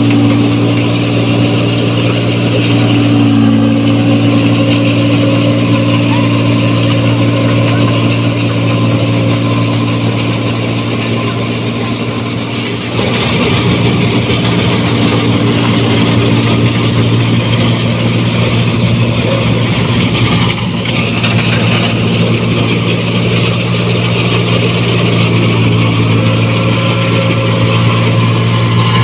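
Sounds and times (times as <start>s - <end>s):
diesel engine humming: 0.0s - 29.0s
machinery clatter: 0.0s - 29.0s.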